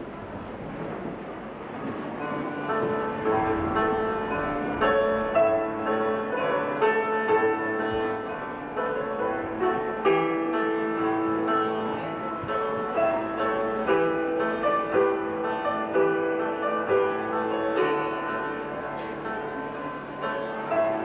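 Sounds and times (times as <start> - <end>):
upright piano melody: 1.3 - 21.0.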